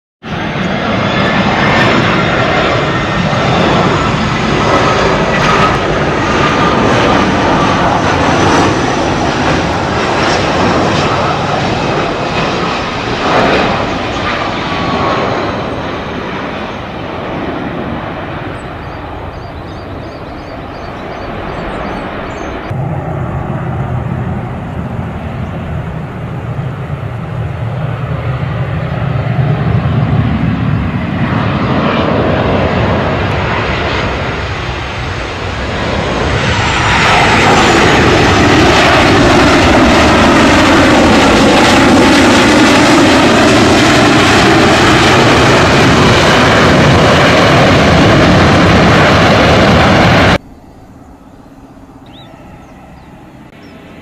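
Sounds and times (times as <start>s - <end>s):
jet engines roaring: 0.2s - 54.0s.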